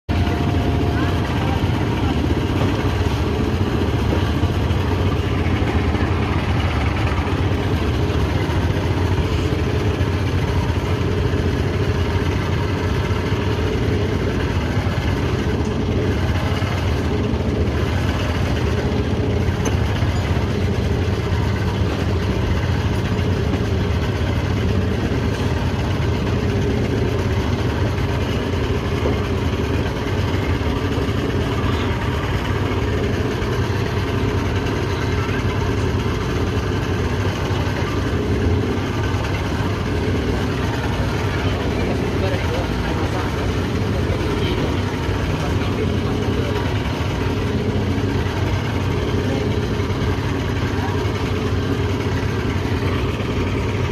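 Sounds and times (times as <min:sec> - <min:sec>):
outboard motor idling: 0:00.0 - 0:53.9.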